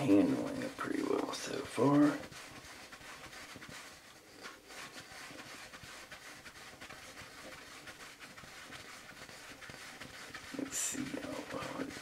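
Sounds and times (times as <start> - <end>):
toilet paper rustling: 0.0 - 12.0.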